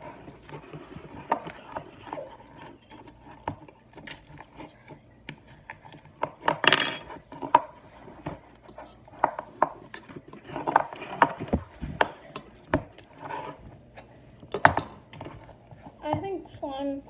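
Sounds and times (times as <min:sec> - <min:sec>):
utensil scraping a bowl of slime: 0:00.0 - 0:16.8.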